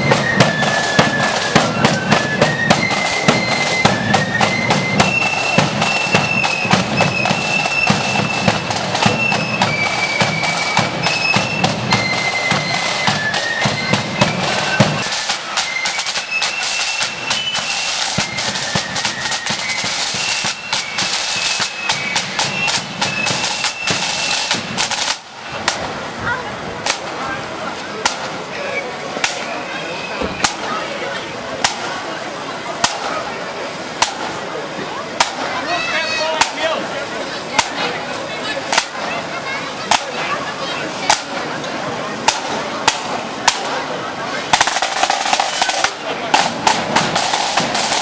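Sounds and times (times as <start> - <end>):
snare drumming: 0.0 - 26.1, 26.8 - 27.2, 28.0 - 28.4, 29.2 - 29.6, 30.2 - 30.9, 31.6 - 32.1, 32.8 - 33.3, 34.0 - 34.5, 35.2 - 36.9, 37.6 - 37.9, 38.7 - 39.1, 39.9 - 40.3, 41.0 - 41.5, 42.2 - 48.0
flutes playing melody: 0.0 - 48.0.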